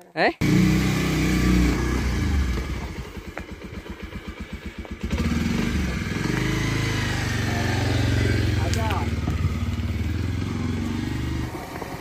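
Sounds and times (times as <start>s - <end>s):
motorcycle engine: 0.4s - 12.0s.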